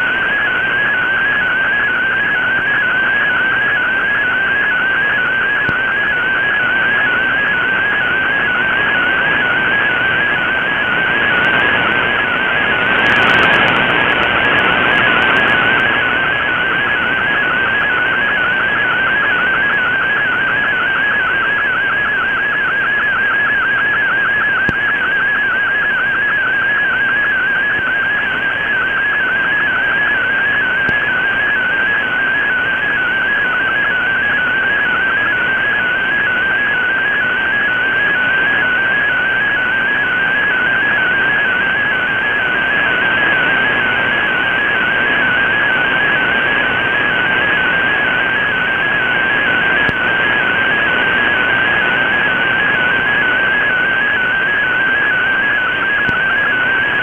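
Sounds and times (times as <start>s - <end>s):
warbling radio data tone: 0.0s - 57.0s.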